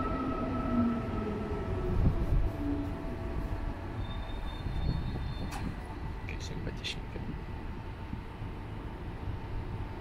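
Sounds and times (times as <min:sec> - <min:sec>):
rumble of train wheels: 0:00.0 - 0:10.0.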